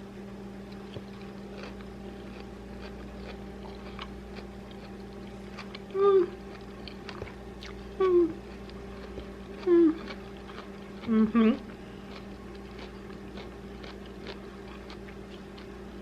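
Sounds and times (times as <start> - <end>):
steady low hum: 0.0 - 16.0
faint chewing clicks: 0.6 - 16.0.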